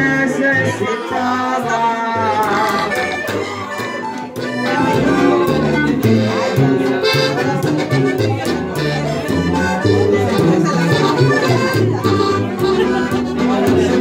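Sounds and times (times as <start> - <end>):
accordion melody: 0.0 - 14.0
bass line: 0.0 - 14.0
percussion: 2.2 - 14.0.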